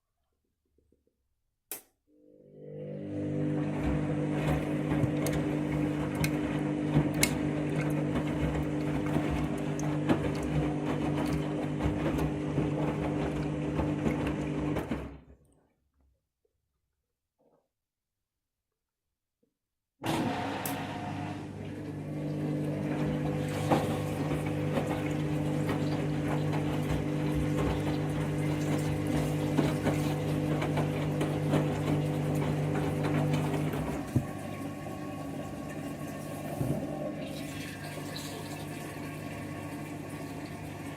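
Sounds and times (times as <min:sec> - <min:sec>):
washing machine spinning: 0:02.4 - 0:15.4, 0:20.0 - 0:40.9.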